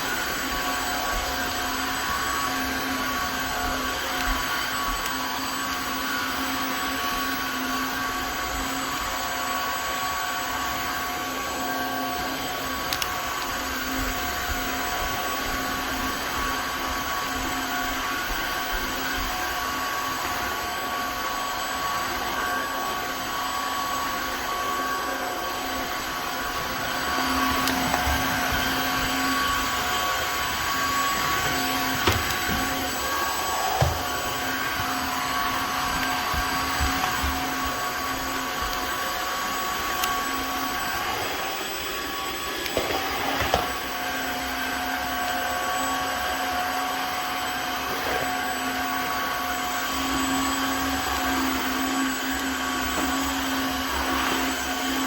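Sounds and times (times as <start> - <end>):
vacuum mop motor humming: 0.0 - 55.0.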